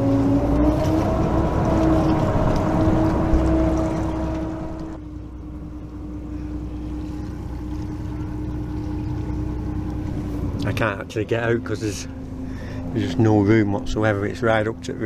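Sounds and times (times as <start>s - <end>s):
ferry engine humming: 0.0s - 15.0s.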